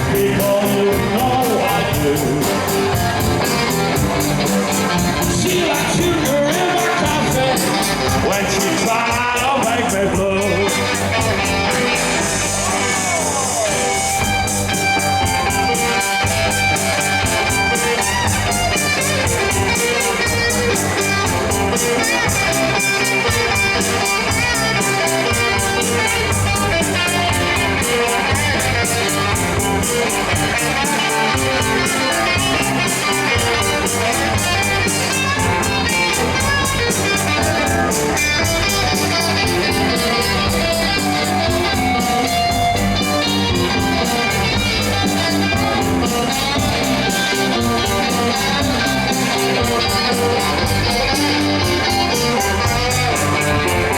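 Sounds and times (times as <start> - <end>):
drum kit beat: 0.0 - 53.9
electric guitar: 0.0 - 53.9.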